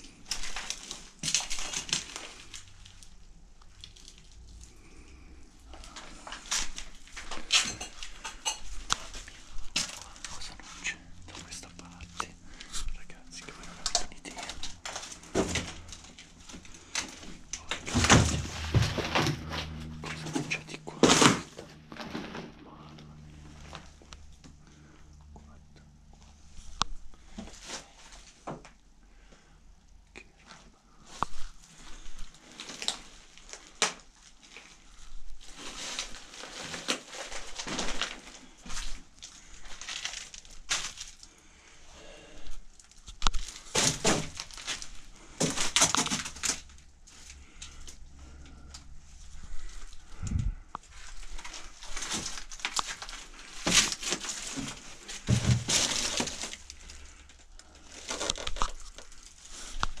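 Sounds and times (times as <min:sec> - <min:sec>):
footsteps crunching over debris: 0:00.0 - 0:05.1, 0:05.7 - 0:24.5, 0:31.0 - 0:41.4, 0:42.5 - 0:48.6, 0:49.2 - 1:00.0.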